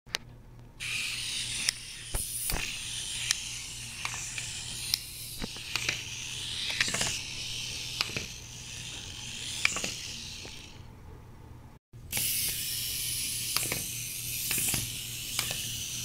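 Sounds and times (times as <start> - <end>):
wind-up toy motor whirring: 0.8 - 10.9, 12.1 - 16.0
toy car clicking and knocking: 1.2 - 10.7, 12.2 - 16.0.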